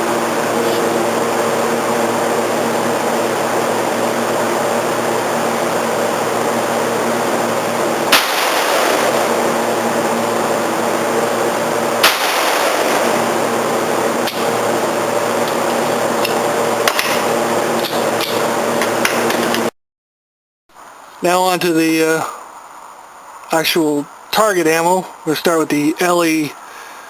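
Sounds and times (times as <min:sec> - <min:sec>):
fan-like hum and hiss: 0:00.0 - 0:19.7, 0:20.7 - 0:27.0.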